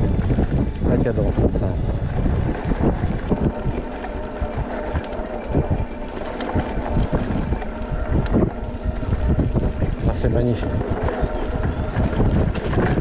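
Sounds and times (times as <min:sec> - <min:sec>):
wind buffeting microphone: 0:00.0 - 0:13.0
bike knocks and rattles: 0:02.0 - 0:13.0.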